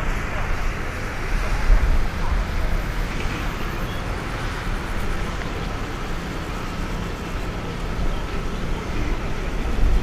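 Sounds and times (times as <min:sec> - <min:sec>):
faint steady whine: 0:00.0 - 0:10.0
jet engine rumble: 0:00.0 - 0:10.0.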